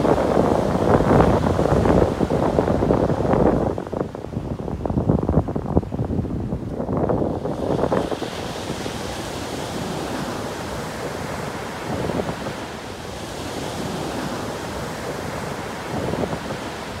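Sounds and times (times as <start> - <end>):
small waves breaking on beach: 0.0 - 17.0
wind buffeting the microphone: 0.0 - 17.0.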